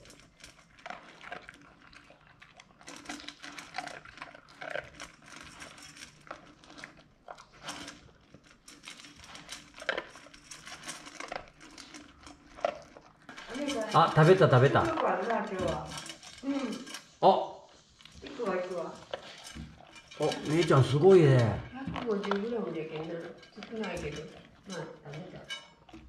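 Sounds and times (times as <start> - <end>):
kibble clicking in metal bowl: 0.0 - 17.1, 18.7 - 26.0
puppy crunching dry kibble: 0.0 - 26.0.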